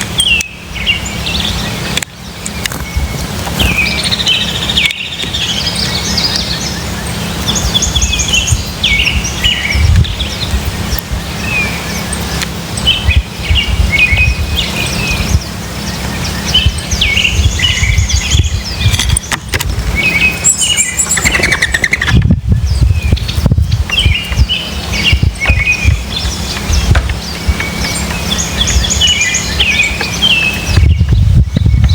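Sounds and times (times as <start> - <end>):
small birds chirping: 0.0 - 31.9
steady low rumble: 0.0 - 31.9.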